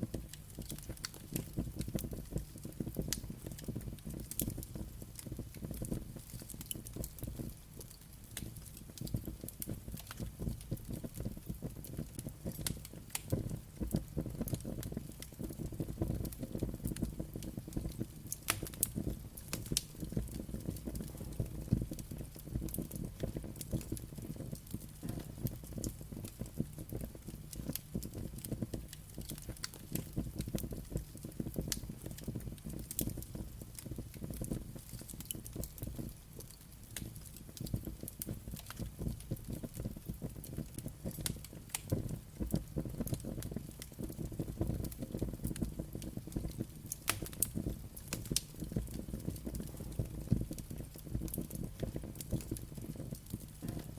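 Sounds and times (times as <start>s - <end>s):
flames rumbling: 0.0s - 53.9s
wood fire crackling and popping: 0.0s - 53.9s.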